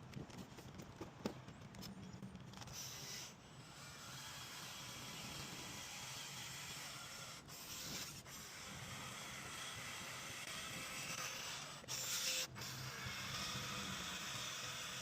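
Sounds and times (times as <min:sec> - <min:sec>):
steady rubbing noise: 0:02.7 - 0:15.0.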